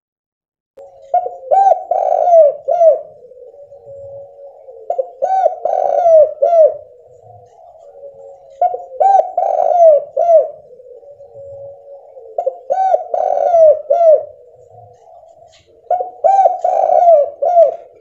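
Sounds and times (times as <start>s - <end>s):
dove cooing: 0.8s - 18.0s.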